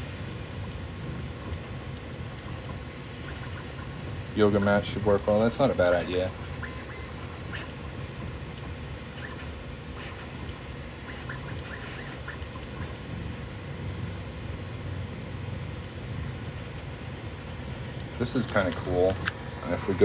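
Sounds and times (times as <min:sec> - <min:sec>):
printer cooling fan hum: 0:00.0 - 0:20.0.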